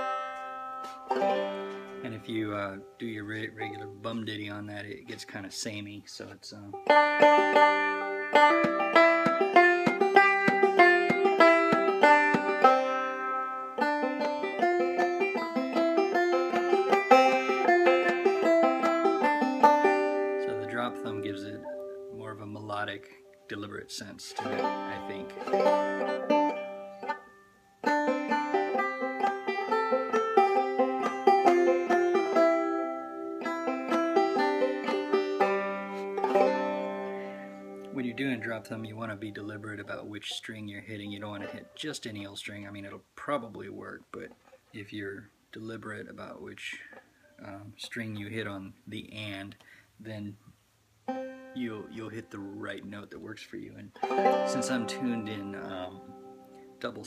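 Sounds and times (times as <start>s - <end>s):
banjo plucked melody: 0.0s - 48.6s, 51.0s - 57.0s.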